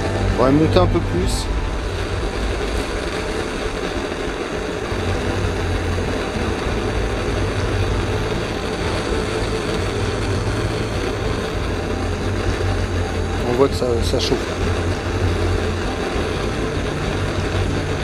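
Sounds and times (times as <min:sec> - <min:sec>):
blowtorch flame burning: 0:00.0 - 0:18.0.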